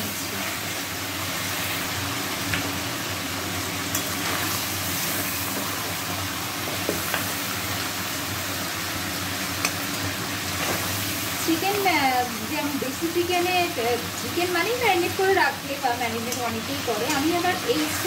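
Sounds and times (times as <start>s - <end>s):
chicken sizzling in oil: 0.0s - 18.0s.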